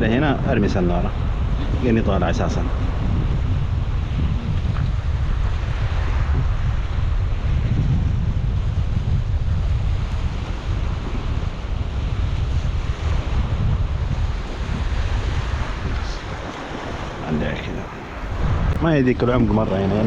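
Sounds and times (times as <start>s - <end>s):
sea surf: 0.0s - 20.0s
wind buffeting microphone: 0.0s - 20.0s.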